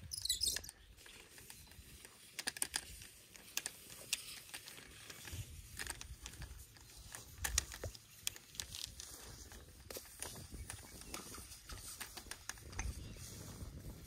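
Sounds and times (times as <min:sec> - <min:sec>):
plastic pipe clicking and rustling: 0:00.0 - 0:14.0.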